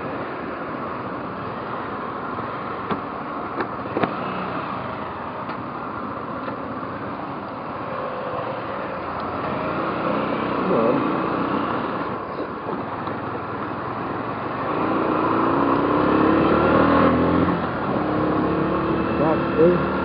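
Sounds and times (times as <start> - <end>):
road noise: 0.0 - 20.0
motorcycle engine: 3.6 - 20.0.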